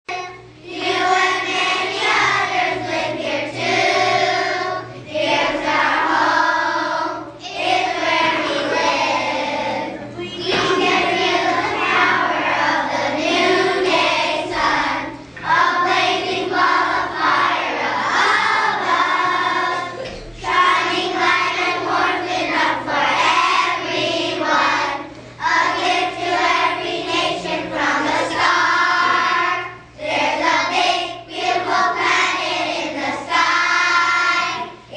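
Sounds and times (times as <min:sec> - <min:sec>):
children singing together: 0:00.1 - 0:34.9.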